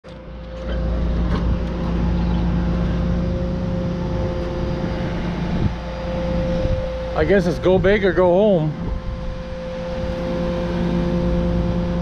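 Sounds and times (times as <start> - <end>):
crane engine rumbling: 0.0 - 12.0.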